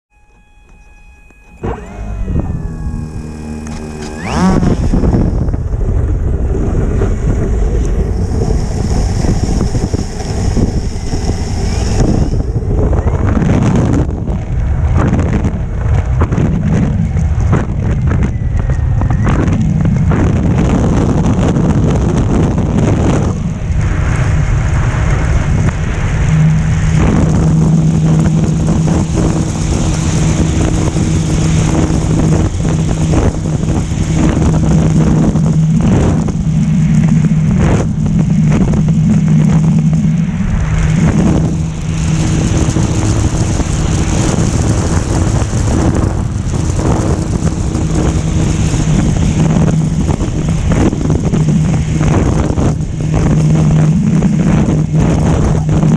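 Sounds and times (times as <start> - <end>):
model plane propeller hum: 0.1 - 55.9
wind buffeting microphone: 0.7 - 55.9.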